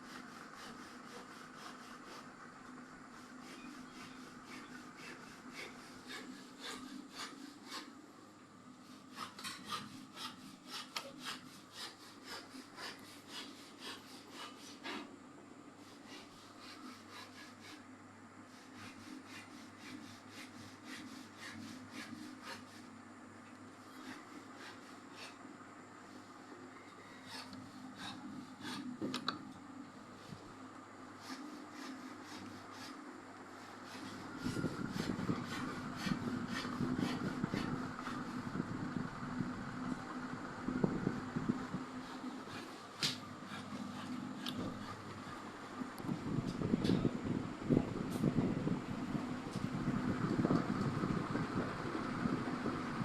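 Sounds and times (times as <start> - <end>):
ceiling fan humming: 0.0 - 53.0.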